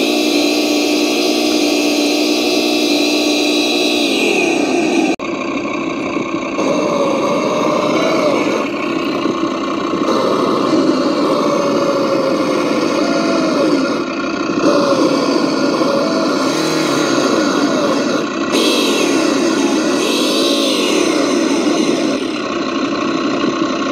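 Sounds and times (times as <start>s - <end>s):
simulated engine revving: 0.0s - 23.9s.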